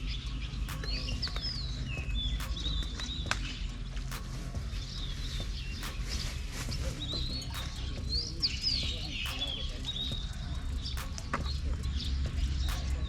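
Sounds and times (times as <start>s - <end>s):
low steady rumble: 0.0s - 13.0s
sharp ticks: 0.0s - 13.0s
small birds chirping: 0.0s - 13.0s.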